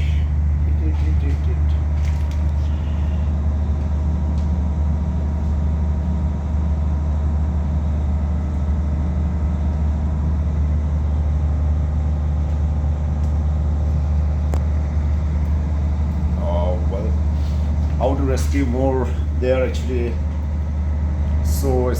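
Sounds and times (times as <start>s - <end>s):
low mechanical hum: 0.0s - 21.9s.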